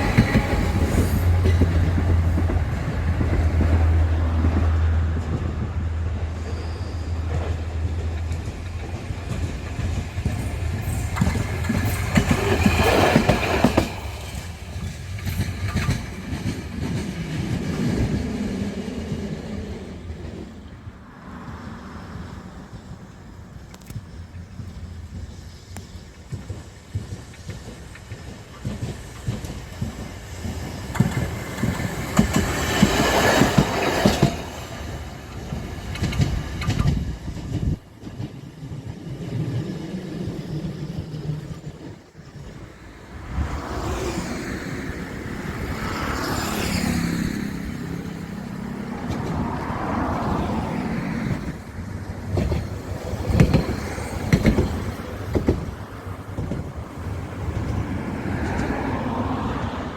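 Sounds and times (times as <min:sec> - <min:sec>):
rail vehicle running past: 0:00.0 - 0:59.9.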